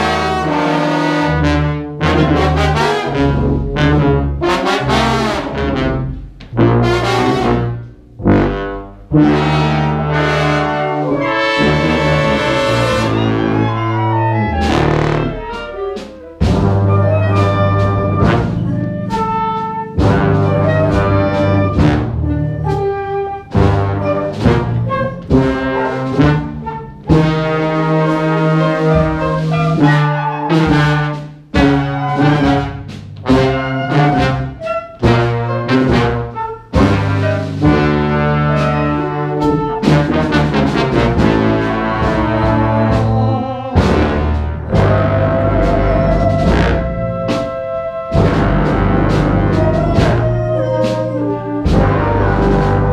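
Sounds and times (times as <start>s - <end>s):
brass band playing loud chords: 0.0s - 52.9s
trumpets and trombones: 0.0s - 52.9s.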